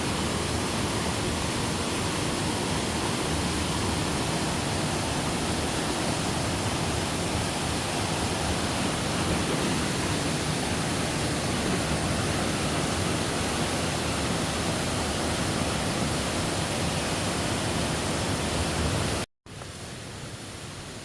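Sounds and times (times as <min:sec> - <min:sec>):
waterfall rushing: 0:00.0 - 0:19.2.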